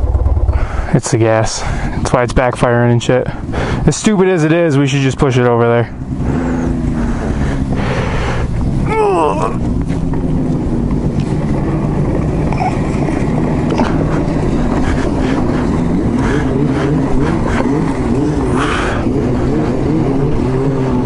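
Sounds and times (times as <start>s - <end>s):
two-stroke snowmobile engine: 0.0s - 21.0s.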